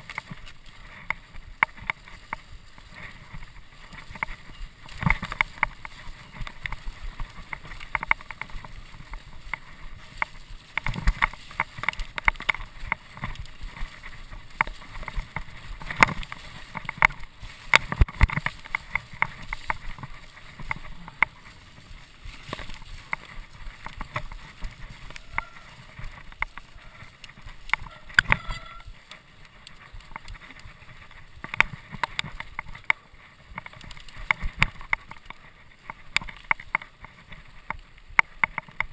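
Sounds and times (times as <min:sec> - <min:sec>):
bike knocking and rattling: 0:00.0 - 0:38.9.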